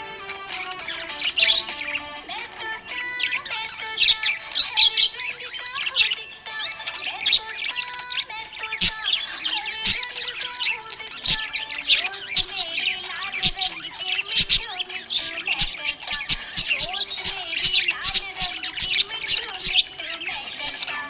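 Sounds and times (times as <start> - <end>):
parrot squawks: 0.0 - 21.0
parrots chirping and twittering: 0.0 - 21.0.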